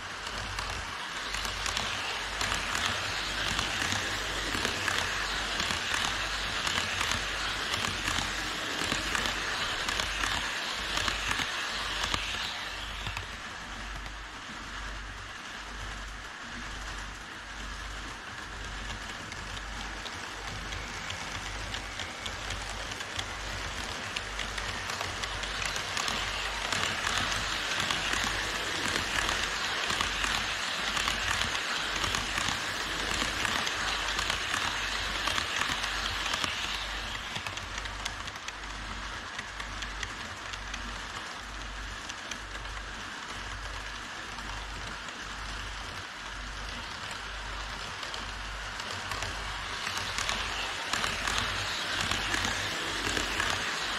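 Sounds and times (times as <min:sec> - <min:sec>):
fine clicking crackle: 0:00.0 - 0:53.9
model train wheels and motors hissing: 0:00.0 - 0:53.9.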